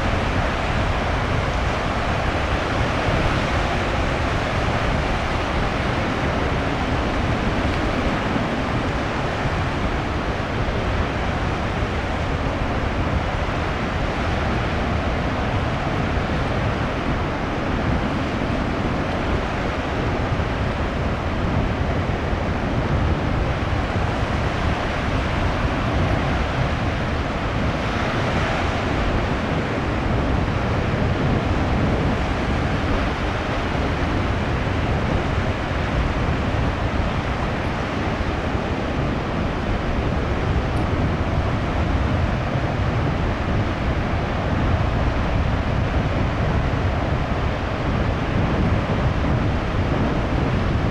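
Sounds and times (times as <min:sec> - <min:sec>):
heavy surf crashing on shore: 0:00.0 - 0:50.9.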